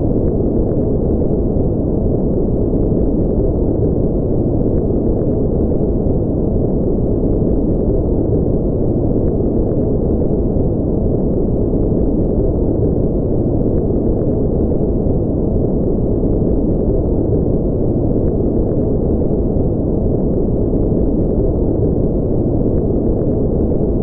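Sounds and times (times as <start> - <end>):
deep noise machine rumble: 0.0 - 24.0.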